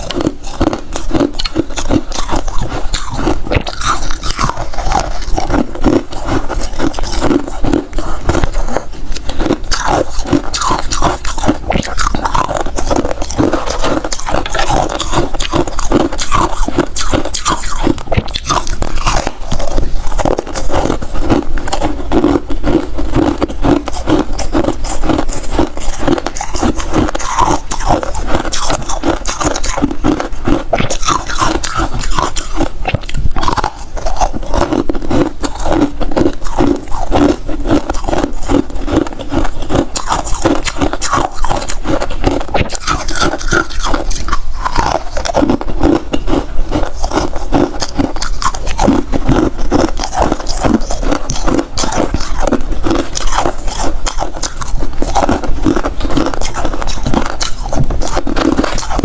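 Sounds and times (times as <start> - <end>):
person chewing ice crunching: 0.0 - 59.0.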